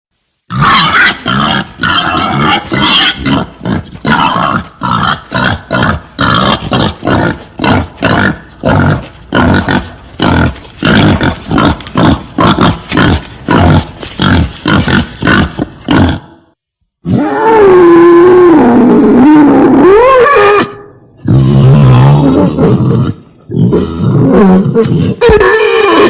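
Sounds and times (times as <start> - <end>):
wild boar grunting and squealing: 0.5 - 16.4, 17.0 - 26.0.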